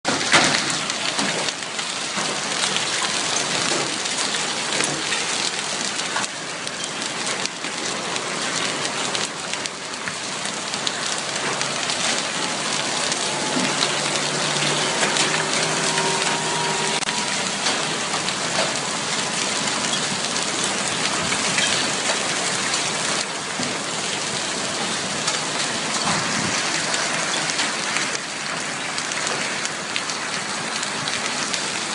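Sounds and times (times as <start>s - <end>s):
hail and heavy rain clattering: 0.1s - 31.9s.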